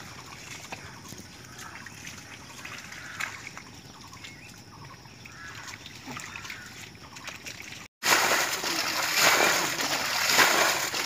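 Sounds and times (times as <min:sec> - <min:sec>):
splashes in muddy water: 0:00.0 - 0:11.0.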